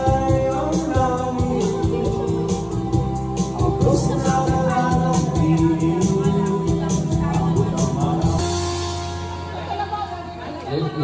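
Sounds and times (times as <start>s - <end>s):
person singing along: 0.0s - 9.2s
karaoke music with beat: 0.0s - 11.0s.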